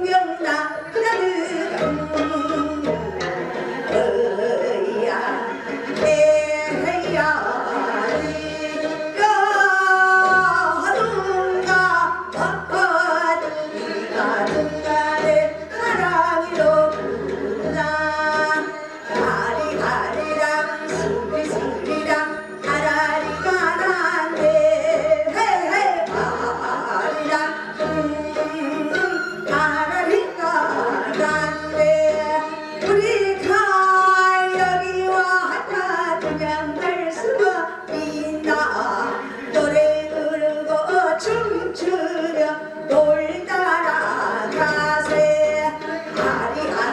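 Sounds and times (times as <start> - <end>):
woman singing into microphone: 0.0 - 46.9.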